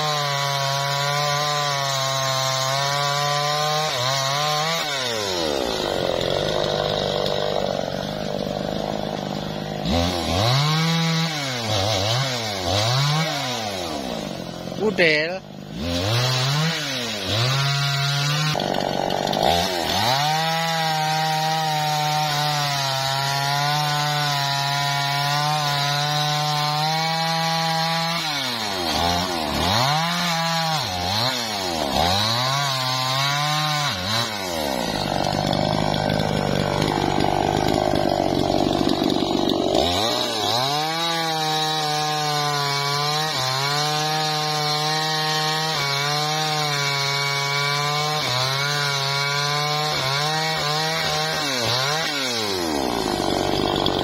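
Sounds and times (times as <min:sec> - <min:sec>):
chainsaw cutting log: 0:00.0 - 0:54.0
chainsaw revving: 0:00.0 - 0:54.0.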